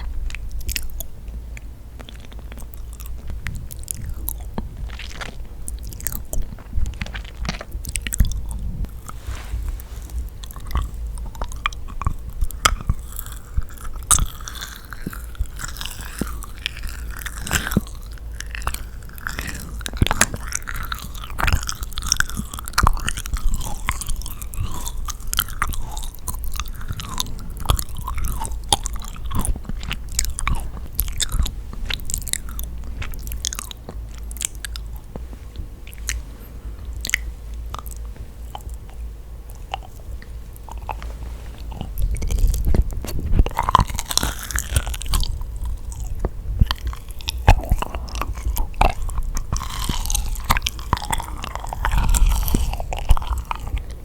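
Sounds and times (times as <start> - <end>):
chewing sticky cookie: 0.0 - 54.0.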